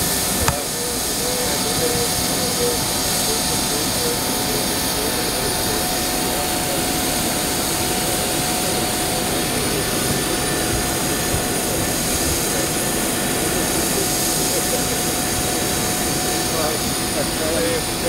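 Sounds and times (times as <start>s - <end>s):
jet aircraft rush with high whine: 0.0s - 18.0s.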